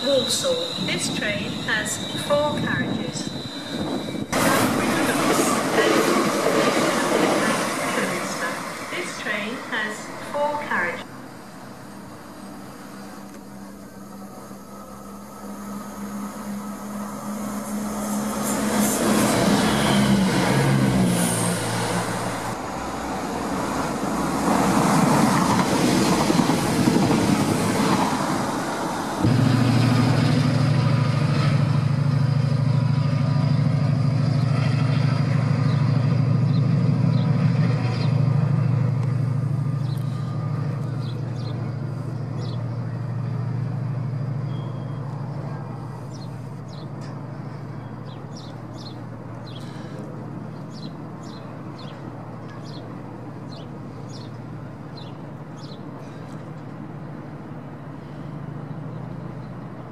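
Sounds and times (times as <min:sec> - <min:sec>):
locomotive low drone: 0:00.0 - 0:59.9
train passing with rushing wheels: 0:00.0 - 0:59.9.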